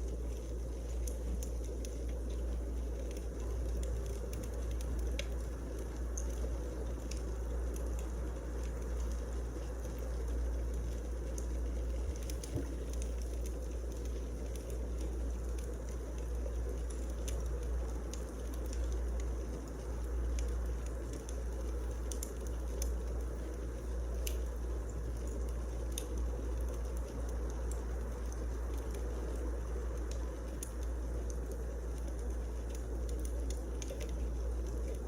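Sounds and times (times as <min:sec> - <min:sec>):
steady low rumble: 0:00.0 - 0:35.0
wood fire crackling: 0:00.0 - 0:35.0.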